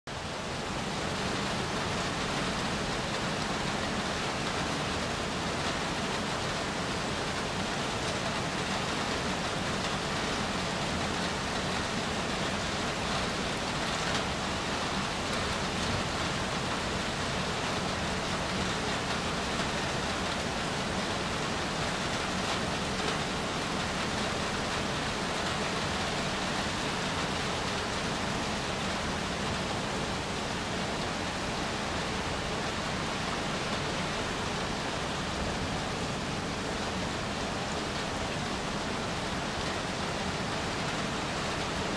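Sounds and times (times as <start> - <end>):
rain falling steadily: 0.1 - 41.9.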